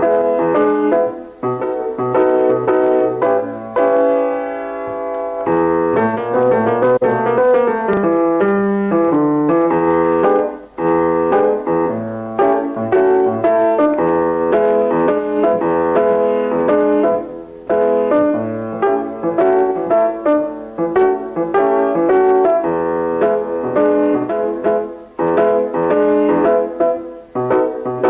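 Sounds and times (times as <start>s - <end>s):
piano playing chords and melody: 0.0s - 28.0s.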